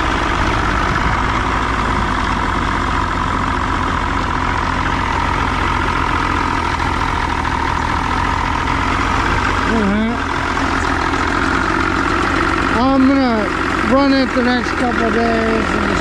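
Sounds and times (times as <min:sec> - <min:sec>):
outboard engine idling: 0:00.0 - 0:16.0.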